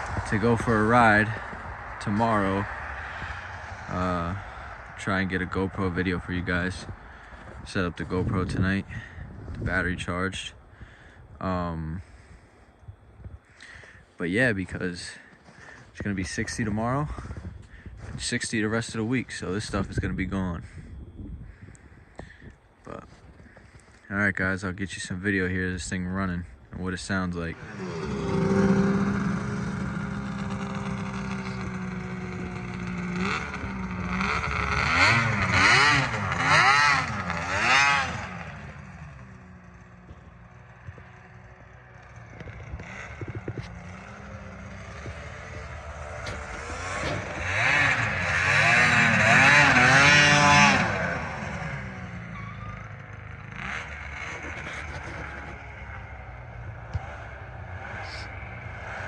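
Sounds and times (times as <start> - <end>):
snowmobile engine revving: 0.0 - 10.1, 13.6 - 20.8, 24.6 - 59.0.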